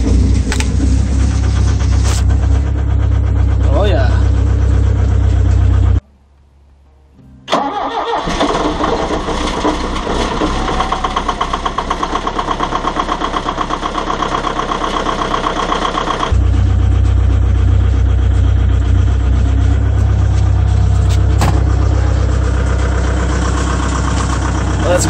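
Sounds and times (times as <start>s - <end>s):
diesel engine starting and running: 0.0s - 6.8s, 7.5s - 25.0s.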